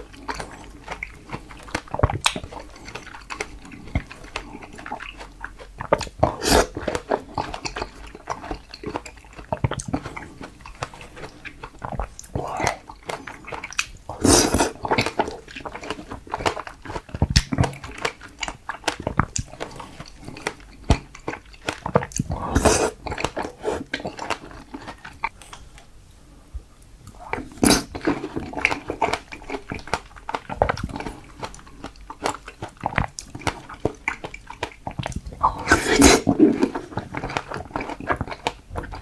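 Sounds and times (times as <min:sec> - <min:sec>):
chewing strawberries: 0:00.0 - 0:25.7, 0:27.1 - 0:39.0.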